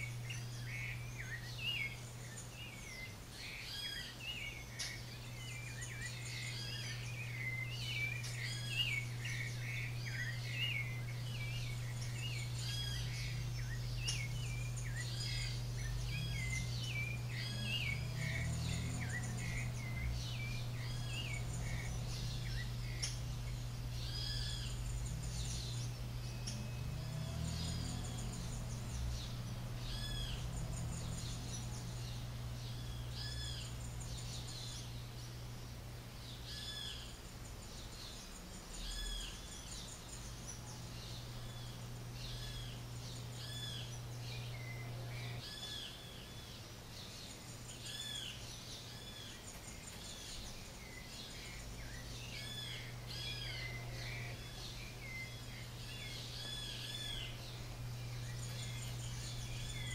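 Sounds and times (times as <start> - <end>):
birds chirping: 0.0 - 59.9
steady low hum: 0.0 - 59.9.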